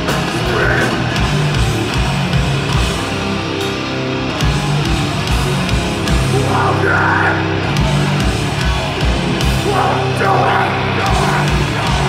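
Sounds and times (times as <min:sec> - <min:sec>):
bass guitar: 0:00.0 - 0:12.0
distorted electric guitars: 0:00.0 - 0:12.0.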